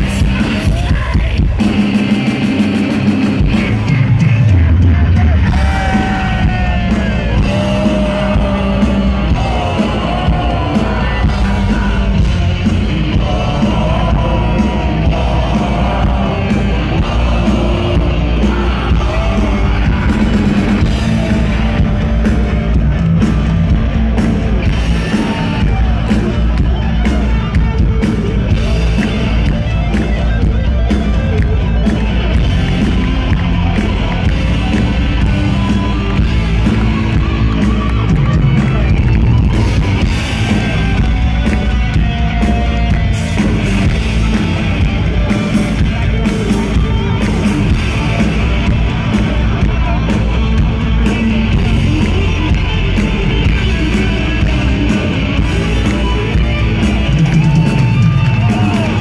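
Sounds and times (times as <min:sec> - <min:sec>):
heavy metal band playing live: 0:00.0 - 0:59.0.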